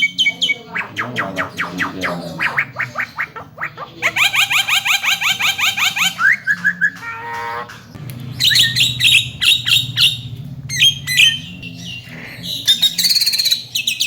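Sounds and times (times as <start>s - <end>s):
bird singing sweeping notes: 0.0s - 14.0s.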